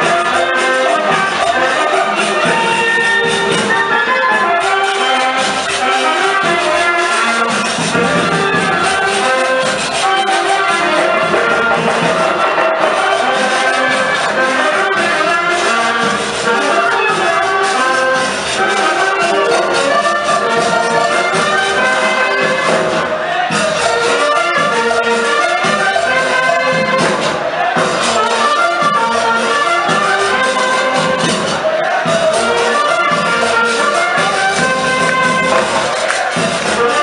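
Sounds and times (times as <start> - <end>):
drum and percussion beat: 0.0 - 37.0
wind instruments playing tune: 0.0 - 37.0.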